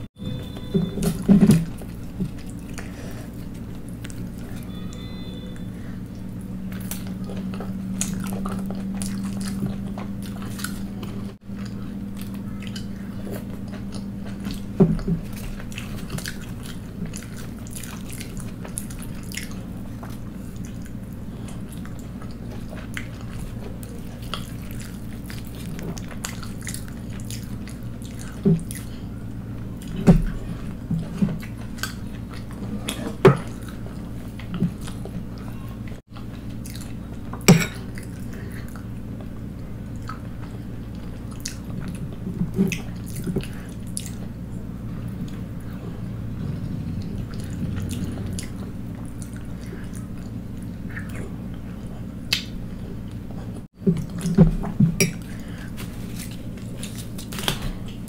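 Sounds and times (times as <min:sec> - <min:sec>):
steady low hum: 0:00.0 - 0:58.0
person chewing food: 0:00.4 - 0:58.0.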